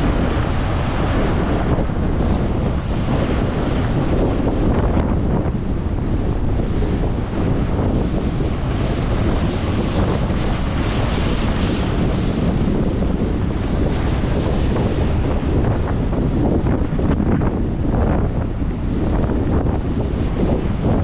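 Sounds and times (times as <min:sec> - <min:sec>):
surf rushing: 0:00.0 - 0:21.0
wind buffeting microphone: 0:00.0 - 0:21.0.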